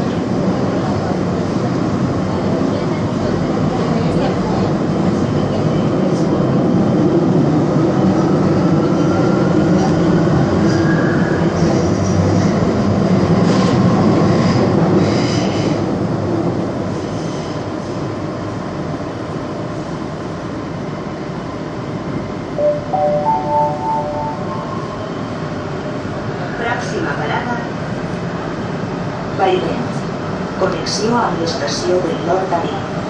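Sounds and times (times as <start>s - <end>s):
metro train running with whine: 0.0s - 33.0s.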